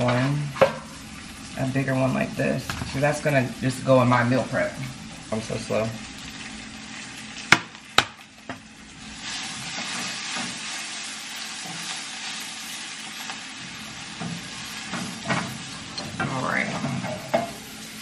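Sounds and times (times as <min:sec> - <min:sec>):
spinach sizzling in a pan: 0:00.0 - 0:18.0.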